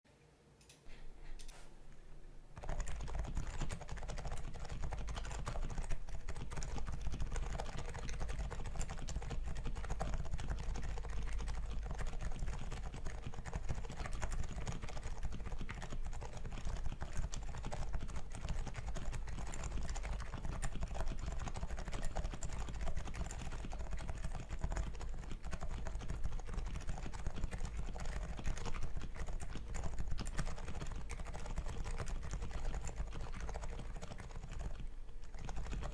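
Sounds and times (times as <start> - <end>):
keyboard typing: 2.6 - 35.9.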